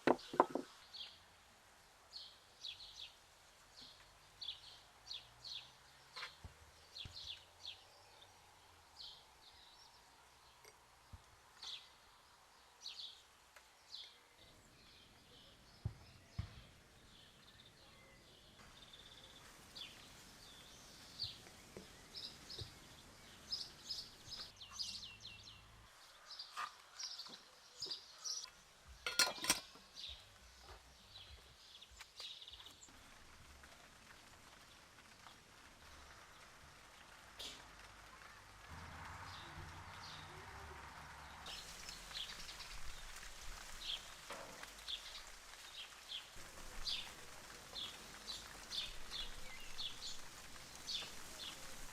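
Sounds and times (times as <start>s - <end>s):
small birds chirping: 0.0s - 38.7s, 39.3s - 51.9s.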